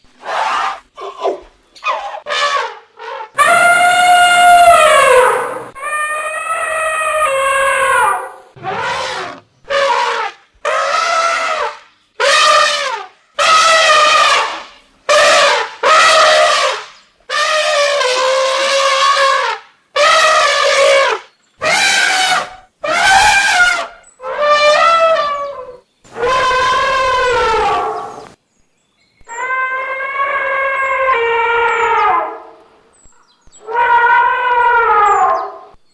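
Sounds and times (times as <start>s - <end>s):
elephants trumpeting: 0.2s - 28.3s, 33.6s - 35.7s.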